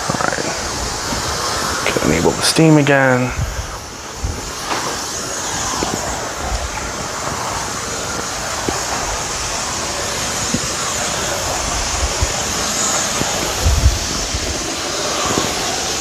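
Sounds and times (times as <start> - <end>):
steam mop hissing: 0.0 - 16.0.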